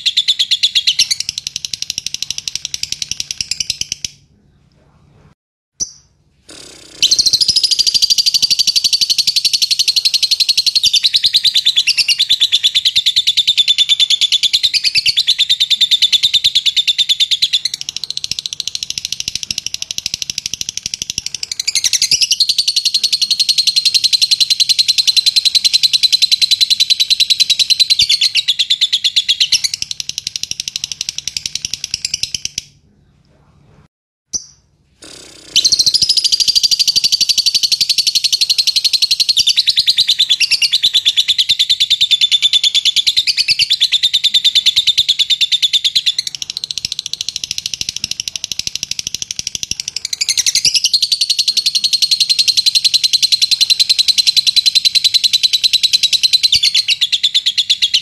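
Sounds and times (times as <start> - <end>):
lovebird chatter: 0.0 - 4.2, 5.8 - 32.8, 34.3 - 58.0.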